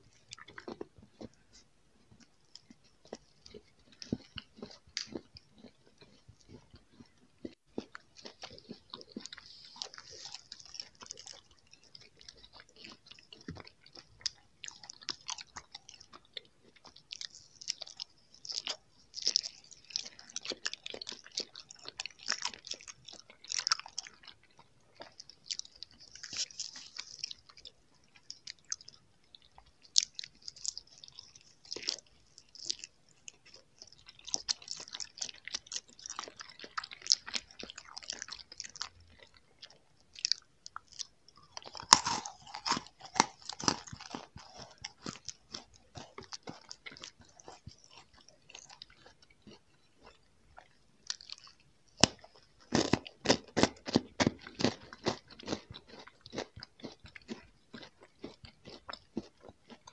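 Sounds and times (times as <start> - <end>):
chewing soft candies: 0.0 - 59.9.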